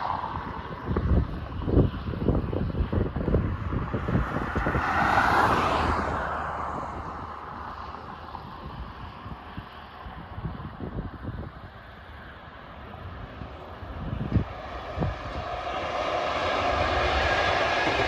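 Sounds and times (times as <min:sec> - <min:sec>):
passing train rushing: 0:00.0 - 0:18.0.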